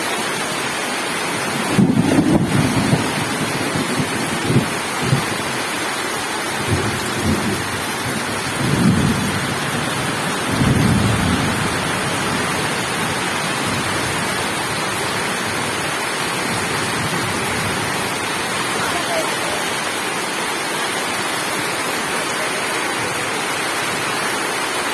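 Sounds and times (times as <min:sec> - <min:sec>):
heavy rain hissing: 0:00.0 - 0:24.9.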